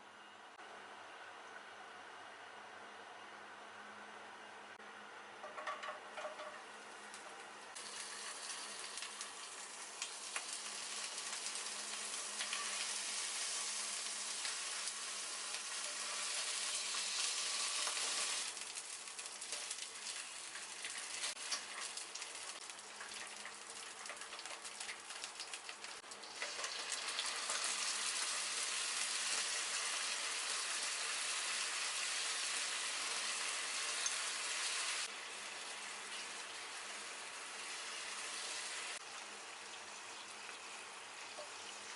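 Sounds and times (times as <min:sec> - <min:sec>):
food sizzling in a frying pan: 0:05.4 - 0:41.9.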